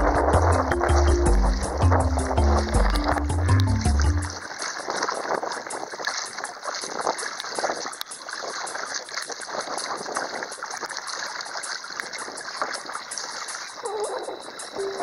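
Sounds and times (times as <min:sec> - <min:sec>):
water splashing against kayak hull: 0:00.0 - 0:15.0.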